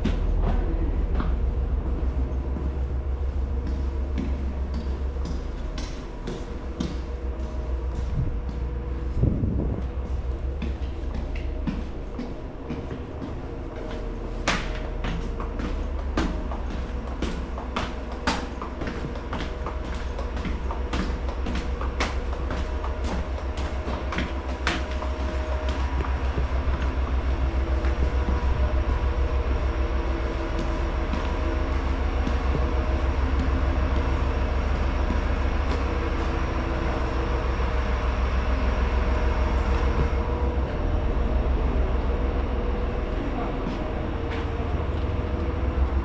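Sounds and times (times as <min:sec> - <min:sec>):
diesel railcar engine idling: 0:00.0 - 0:46.0.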